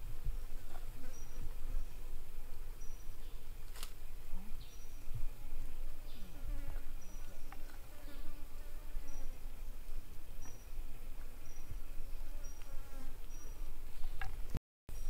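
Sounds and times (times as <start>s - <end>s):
fly buzzing: 0.0s - 14.0s.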